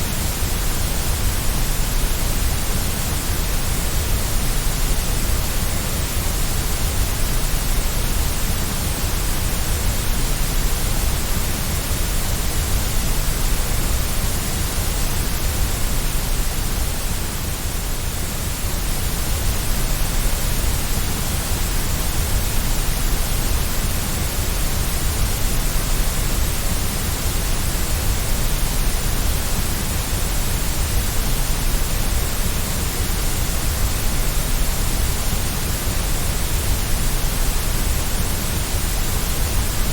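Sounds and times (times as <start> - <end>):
low white noise hiss: 0.0 - 39.9.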